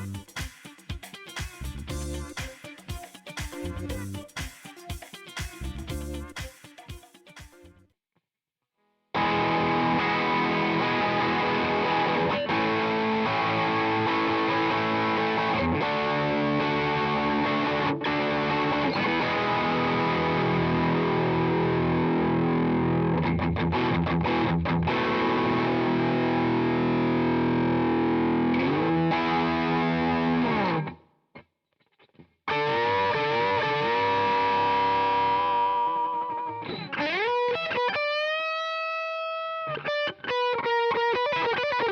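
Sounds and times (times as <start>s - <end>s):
distorted electric guitar: 0.0s - 7.8s, 9.2s - 31.0s, 32.0s - 41.9s.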